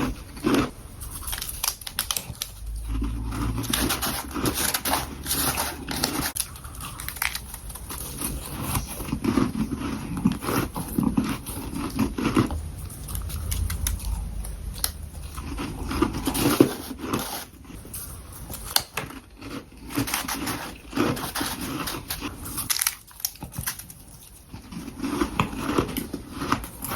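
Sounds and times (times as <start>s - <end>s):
crunching frost being chewed: 0.0s - 26.9s.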